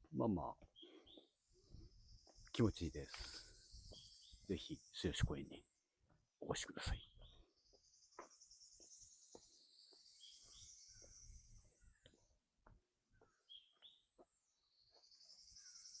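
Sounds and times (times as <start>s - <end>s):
bird chirps: 0.3s - 5.8s, 6.4s - 12.4s, 13.1s - 16.0s
insects buzzing: 0.7s - 12.4s, 13.2s - 16.0s.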